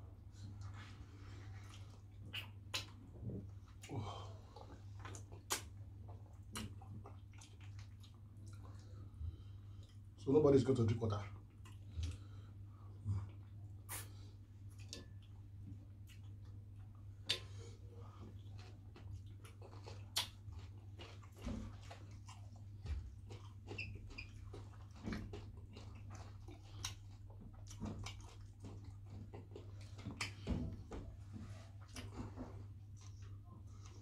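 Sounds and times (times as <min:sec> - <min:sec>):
lips smacking and chewing: 0:00.4 - 0:09.1, 0:11.3 - 0:30.5.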